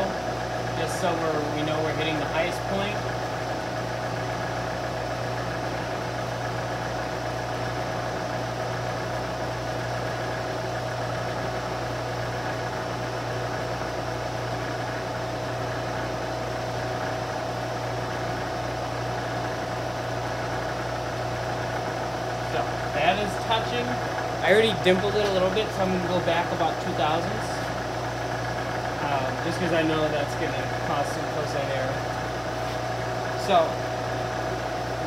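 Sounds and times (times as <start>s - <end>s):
milling machine humming: 0.0s - 35.0s.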